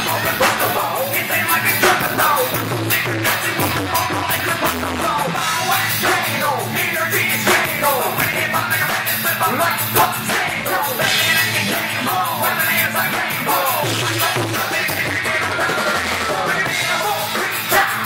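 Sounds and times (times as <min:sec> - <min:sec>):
live band music: 0:00.0 - 0:18.0
man singing into a microphone: 0:00.0 - 0:18.0.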